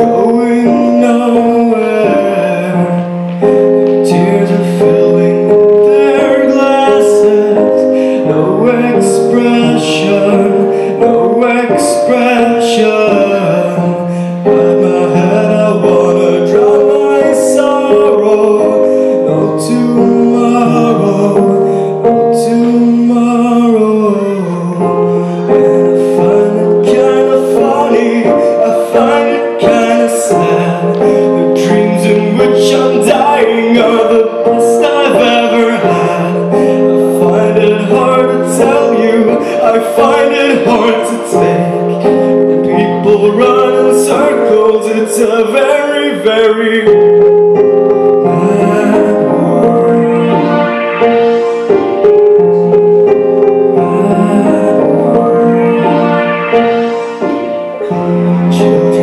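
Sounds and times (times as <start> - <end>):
person singing through microphone: 0.0 - 59.0.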